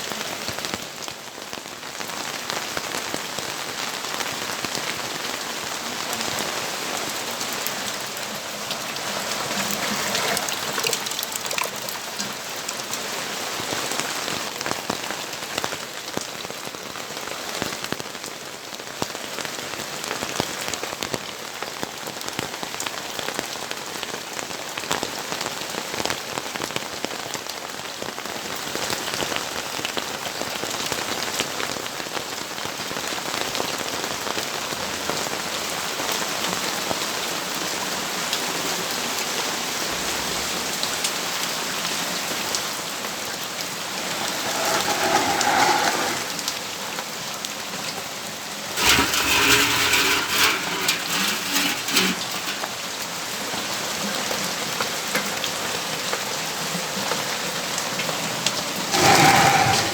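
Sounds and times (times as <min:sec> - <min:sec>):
rain on balcony: 0:00.0 - 0:59.9.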